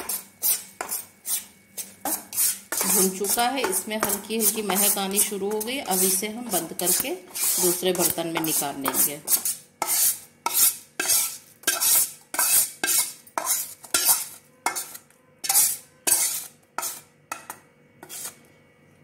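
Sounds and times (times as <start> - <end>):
metal spatula scraping steel pan: 0.0 - 18.4.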